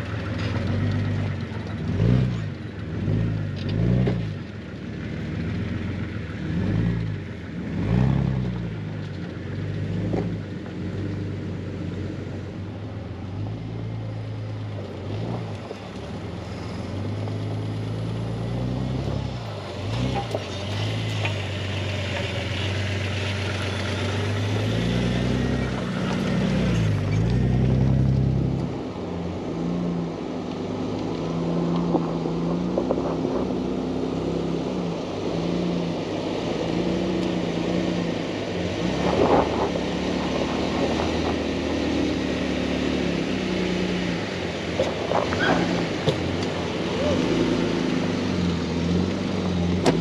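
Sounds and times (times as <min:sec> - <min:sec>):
car engine pulling at low speed: 0:00.0 - 0:50.0.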